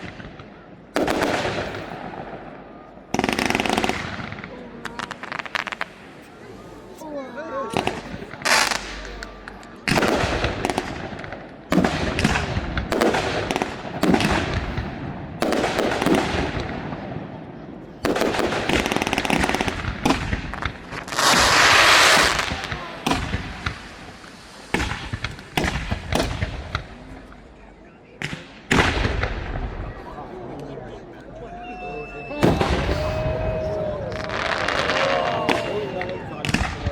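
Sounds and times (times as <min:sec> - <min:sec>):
fireworks crackling: 0:00.0 - 0:02.4, 0:03.1 - 0:17.1, 0:18.0 - 0:30.3, 0:32.2 - 0:36.9
fireworks bursts and bangs: 0:00.0 - 0:07.0, 0:07.7 - 0:30.4, 0:32.4 - 0:36.9.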